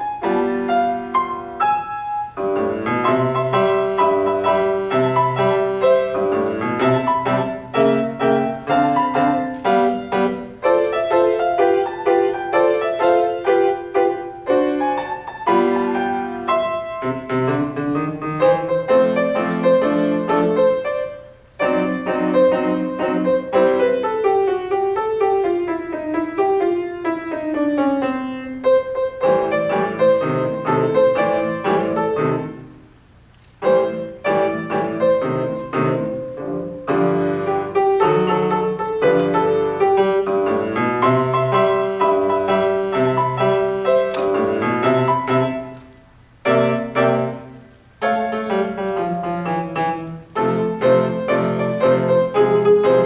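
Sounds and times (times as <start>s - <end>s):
grand piano playing: 0.0s - 53.0s.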